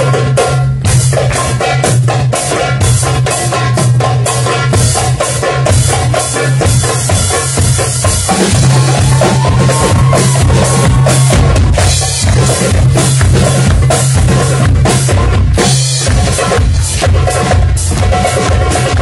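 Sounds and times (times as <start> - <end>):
drum kit: 0.0 - 19.0
hand drums: 0.0 - 19.0.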